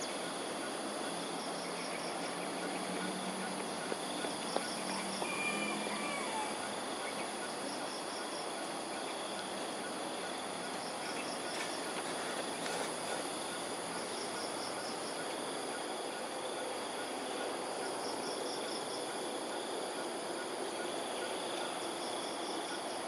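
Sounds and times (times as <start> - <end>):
insects trilling high: 0.0 - 23.0
low background noise: 0.0 - 23.0.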